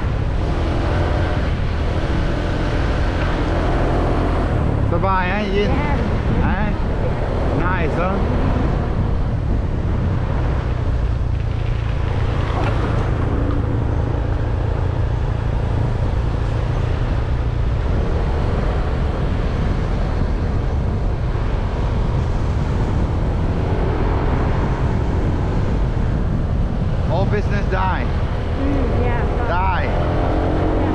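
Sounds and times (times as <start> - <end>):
motorbike engine cruising: 0.0 - 30.9
road and wind noise: 0.0 - 30.9.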